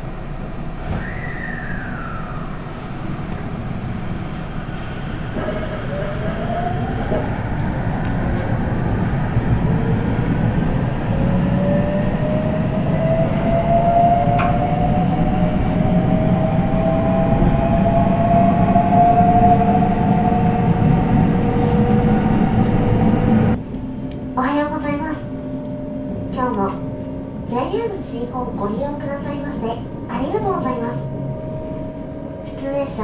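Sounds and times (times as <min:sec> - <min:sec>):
train running gear rumble: 0:00.0 - 0:33.0.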